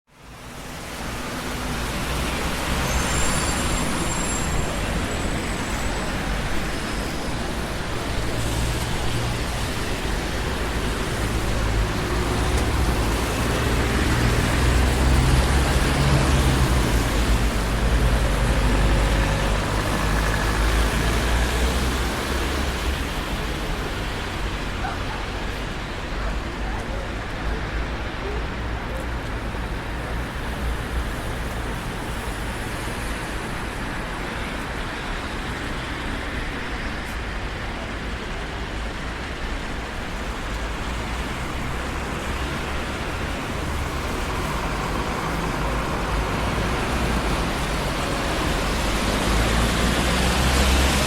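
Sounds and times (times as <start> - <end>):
rumble of passing vehicles: 0.1 - 51.0.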